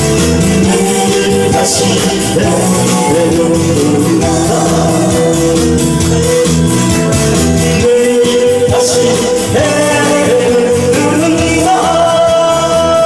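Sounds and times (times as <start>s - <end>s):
loud backing track: 0.0s - 13.0s
man singing through microphone: 0.3s - 6.0s, 7.4s - 13.0s.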